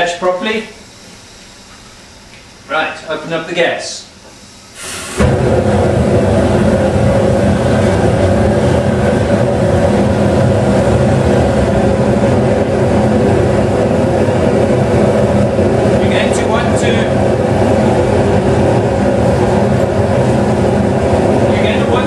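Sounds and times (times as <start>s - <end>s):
burners roaring steadily: 0.0s - 22.0s
gas forge burners lighting: 0.0s - 22.0s.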